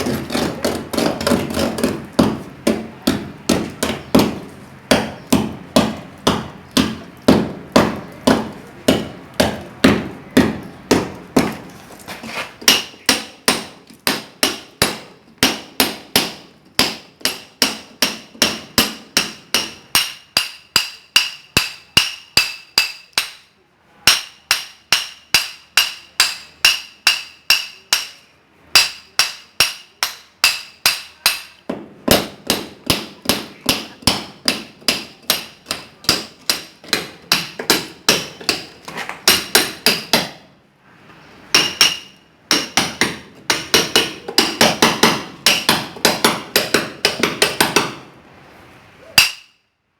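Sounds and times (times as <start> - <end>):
sledgehammer striking steel chisel: 0.0 - 11.7, 12.6 - 23.5, 24.1 - 40.4, 41.5 - 48.0, 49.2 - 49.6.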